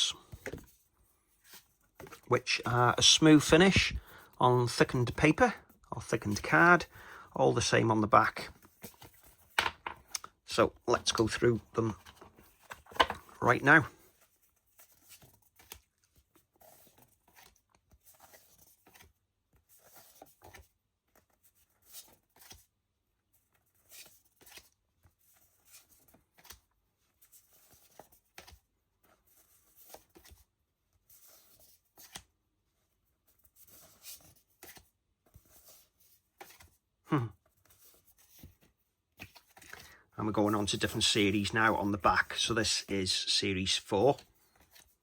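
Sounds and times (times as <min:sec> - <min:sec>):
cards rustling: 0:00.0 - 0:22.7, 0:23.4 - 0:32.3, 0:32.9 - 0:45.0.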